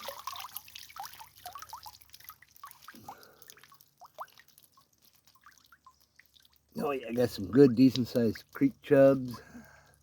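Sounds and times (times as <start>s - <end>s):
water dripping and trickling: 0.0s - 10.0s.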